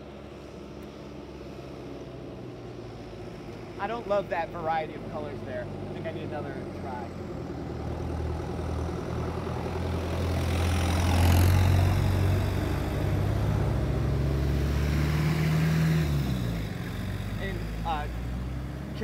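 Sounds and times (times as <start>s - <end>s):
car passing: 0.0s - 19.0s
tractor engine driving past: 0.0s - 19.0s.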